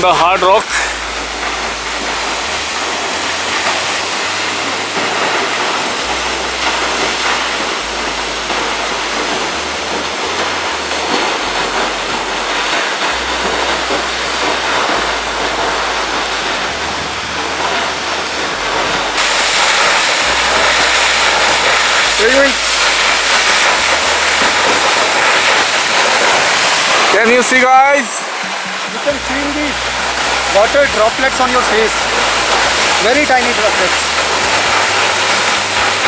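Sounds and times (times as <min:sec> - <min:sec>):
waterfall crashing onto rock: 0:00.0 - 0:36.0.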